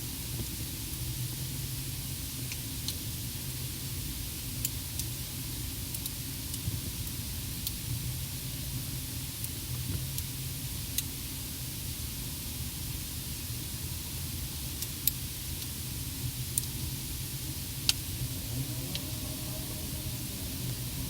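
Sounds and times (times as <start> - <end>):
low hum and hiss: 0.0 - 21.0.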